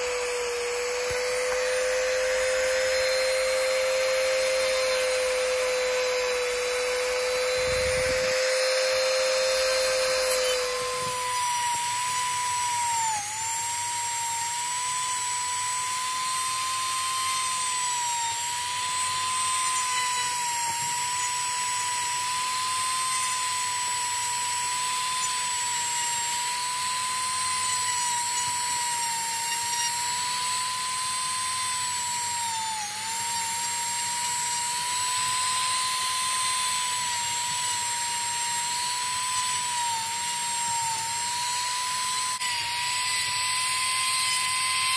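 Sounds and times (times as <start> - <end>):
rotary tool motor whine: 0.0 - 44.9.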